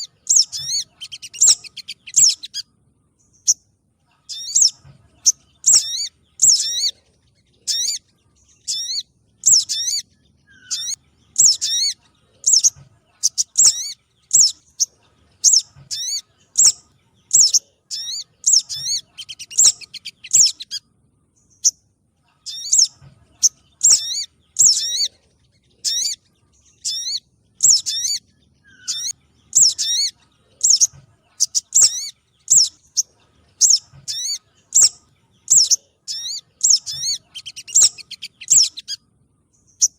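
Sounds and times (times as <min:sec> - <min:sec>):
bird chipping calls: 0:00.0 - 0:02.7, 0:04.2 - 0:07.0, 0:07.6 - 0:20.9, 0:21.5 - 0:39.1.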